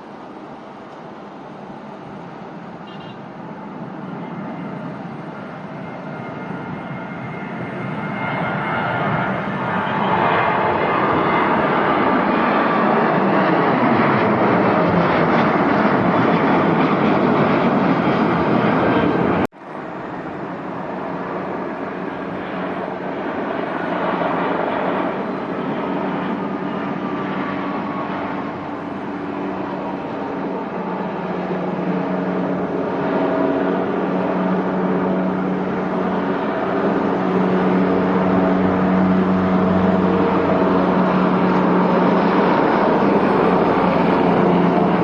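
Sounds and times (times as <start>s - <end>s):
jet engines roaring: 0.0s - 45.0s
quieter engine noise: 0.0s - 45.0s.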